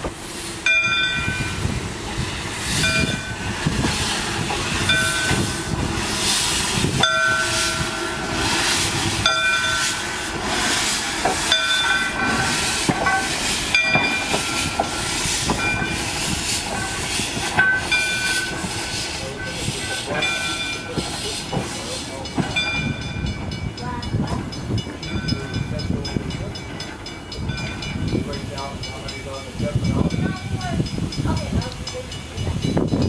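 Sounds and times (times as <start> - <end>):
steam locomotive exhaust puffs: 0.0 - 33.0.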